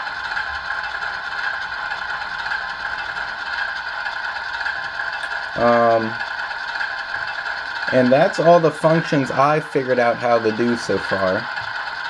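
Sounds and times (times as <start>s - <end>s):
diesel engine idling through small speaker: 0.0s - 12.0s.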